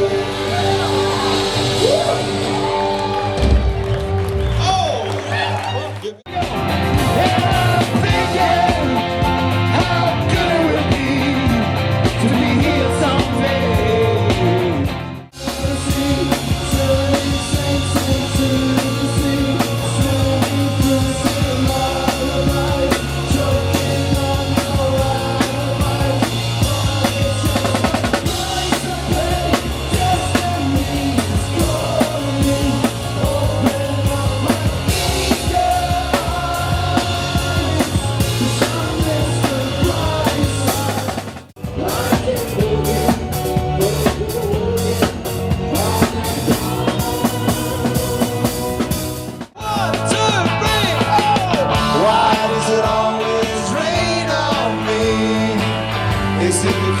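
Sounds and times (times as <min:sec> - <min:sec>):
drum kit beat: 0:00.0 - 0:04.8, 0:06.3 - 0:57.0
band music: 0:00.0 - 0:57.0.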